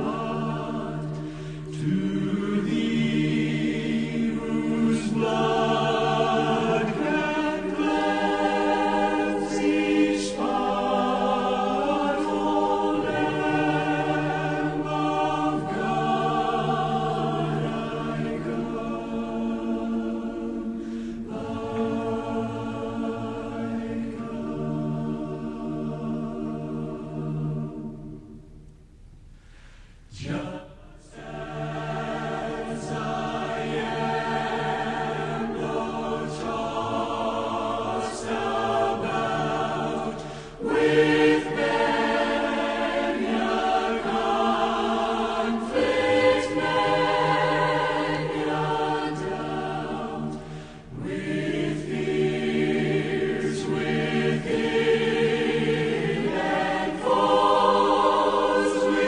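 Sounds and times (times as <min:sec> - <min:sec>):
choir singing a hymn: 0:00.0 - 0:28.5, 0:30.1 - 0:59.0.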